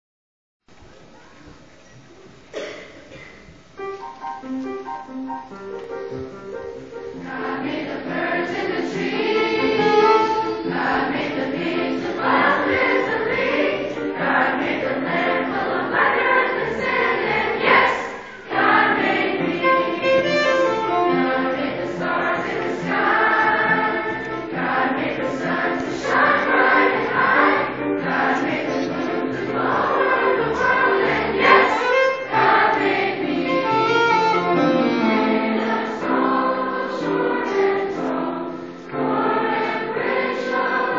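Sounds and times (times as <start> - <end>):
large choir singing: 6.6 - 40.9.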